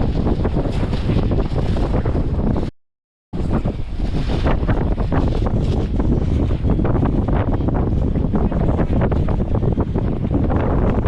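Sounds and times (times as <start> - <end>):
wind buffeting microphone: 0.0 - 2.7, 3.3 - 11.0.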